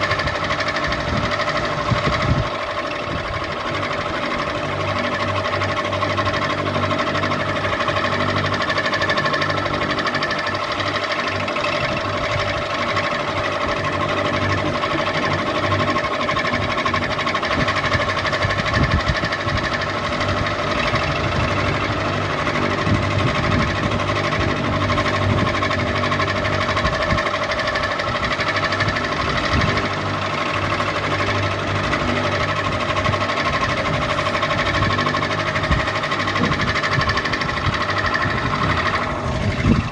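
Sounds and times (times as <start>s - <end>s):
ceiling fan motor hum: 0.0s - 39.9s
low rattle: 0.0s - 39.9s.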